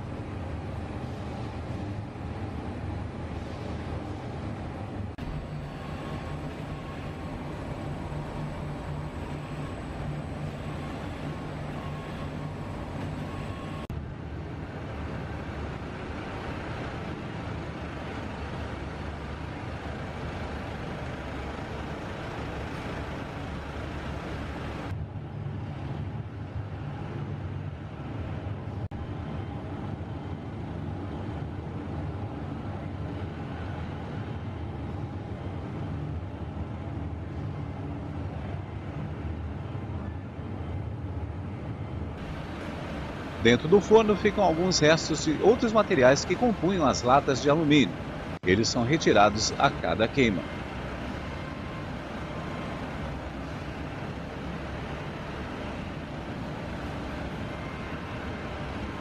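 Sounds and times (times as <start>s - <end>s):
furnace low rumble: 0.0s - 59.0s.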